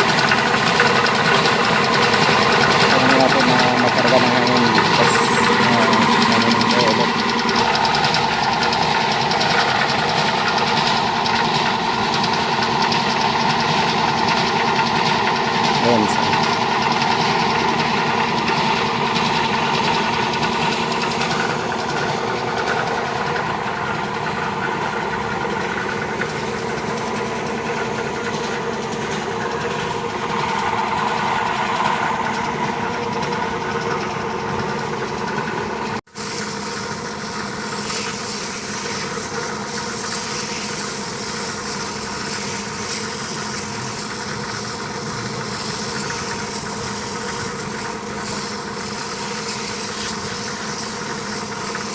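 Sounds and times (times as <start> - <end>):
air compressor motor running: 0.0 - 51.9.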